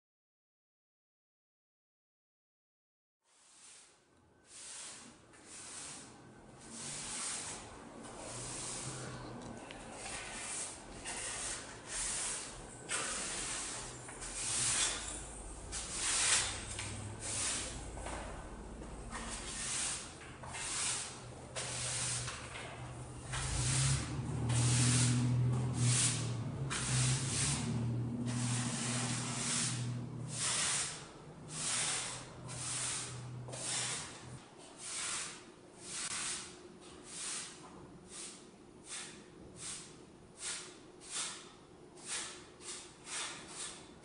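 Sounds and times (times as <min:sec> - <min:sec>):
broom sweeping floor: 0:03.2 - 0:44.0.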